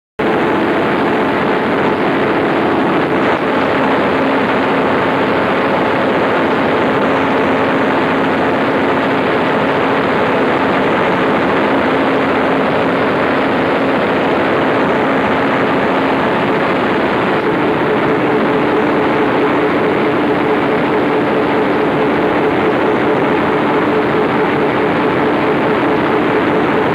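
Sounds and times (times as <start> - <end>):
diesel generator engine running: 0.2 - 26.9.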